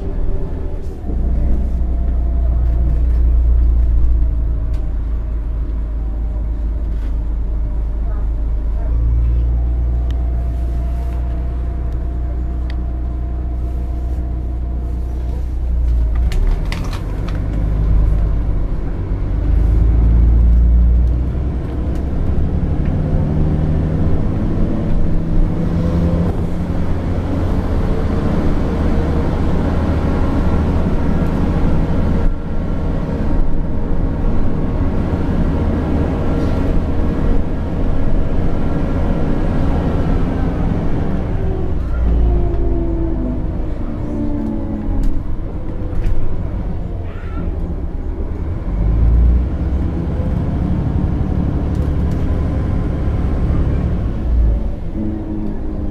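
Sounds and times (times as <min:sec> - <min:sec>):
bus diesel engine idling and accelerating: 0:00.0 - 0:55.9
road rumble inside bus: 0:00.0 - 0:55.9.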